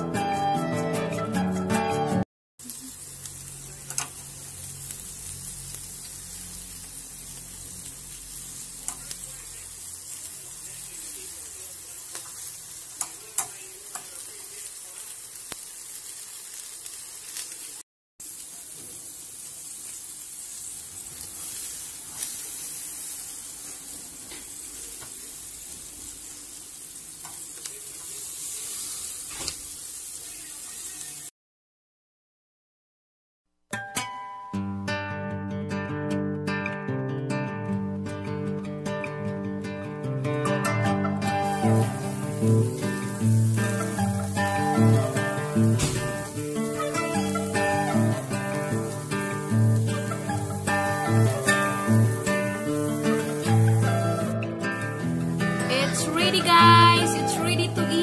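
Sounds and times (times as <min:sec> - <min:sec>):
pork chops sizzling on grill: 0:02.6 - 0:31.3, 0:39.8 - 0:58.0.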